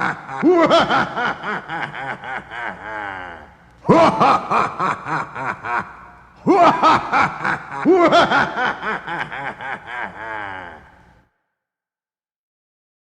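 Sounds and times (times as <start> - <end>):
person laughing: 0.0 - 11.2.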